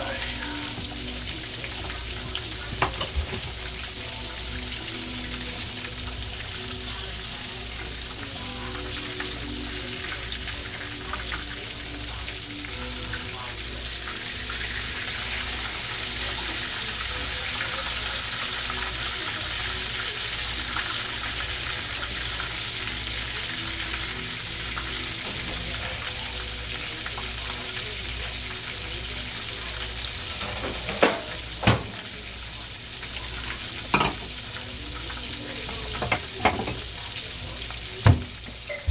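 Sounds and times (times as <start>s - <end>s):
chicken sizzling in oil: 0.0s - 38.9s.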